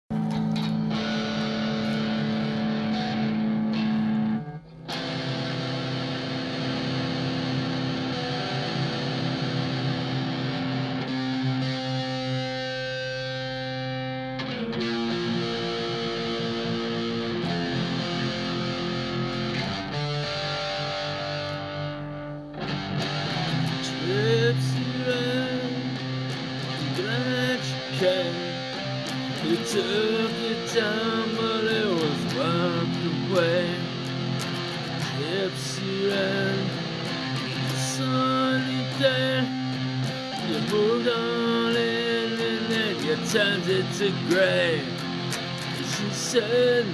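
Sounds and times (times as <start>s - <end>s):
guitar chords ringing: 0.1s - 46.9s.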